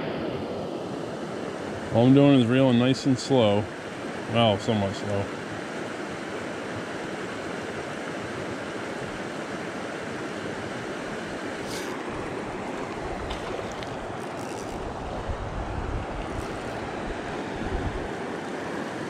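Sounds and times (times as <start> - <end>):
stream flowing water: 0.0 - 19.0.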